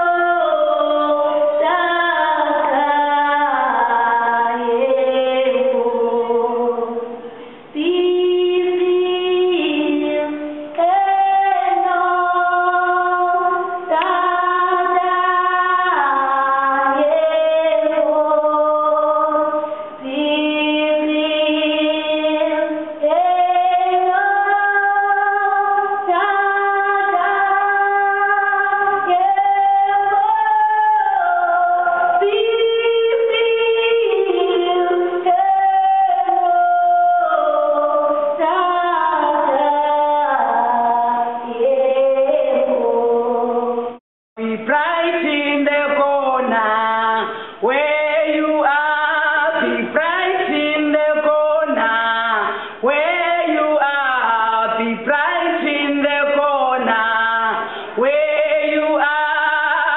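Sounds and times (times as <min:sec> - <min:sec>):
women singing in harmony: 0:00.0 - 0:59.9.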